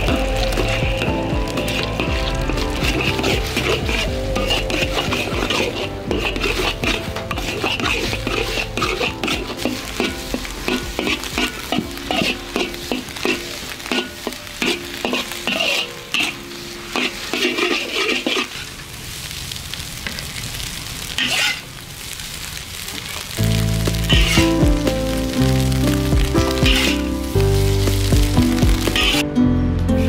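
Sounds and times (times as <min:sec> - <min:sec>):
utensil scraping wok: 0:00.0 - 0:19.4, 0:20.0 - 0:21.8, 0:22.8 - 0:29.2
food sizzling in a wok: 0:00.0 - 0:29.2.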